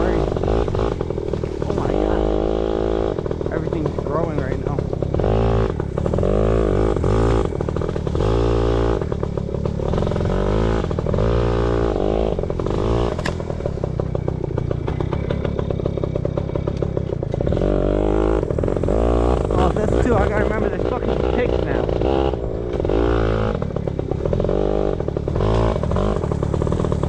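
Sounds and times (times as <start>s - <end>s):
two-stroke engine revving: 0.0s - 27.0s.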